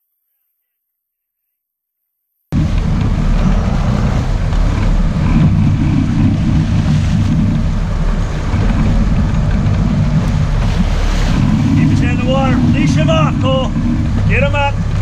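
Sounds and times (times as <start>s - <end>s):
boat engines running: 2.6s - 15.0s
wind rumble on microphone: 2.6s - 15.0s.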